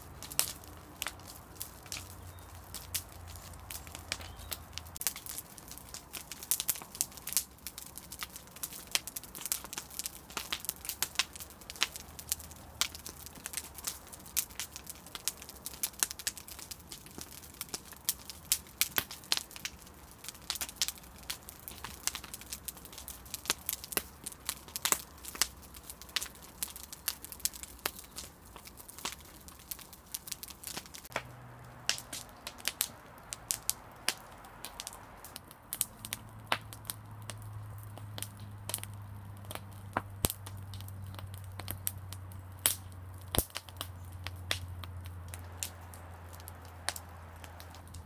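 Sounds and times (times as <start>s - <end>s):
bonfire crackling and popping: 0.0s - 48.0s.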